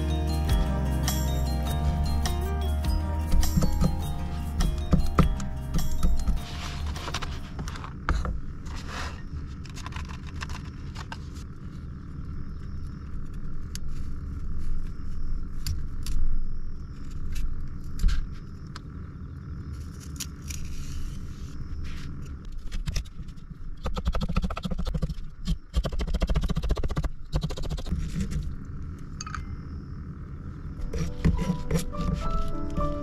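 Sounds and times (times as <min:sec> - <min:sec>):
low steady rumble: 0:00.0 - 0:23.9, 0:27.1 - 0:33.0.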